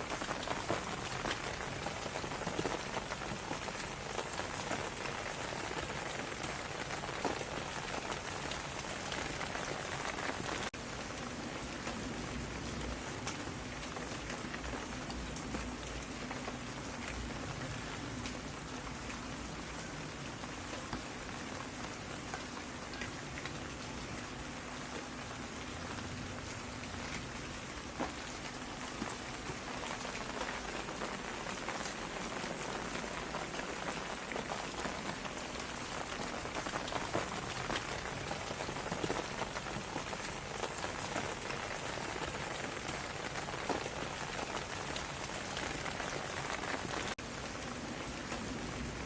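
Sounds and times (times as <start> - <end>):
rain drops ticking: 0.0 - 49.0.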